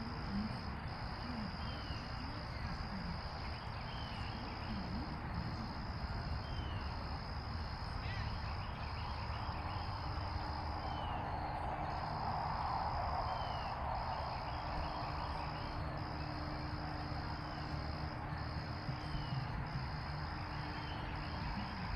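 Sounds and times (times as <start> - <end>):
background hiss and low rumble: 0.0 - 21.9
insects trilling: 0.0 - 21.9.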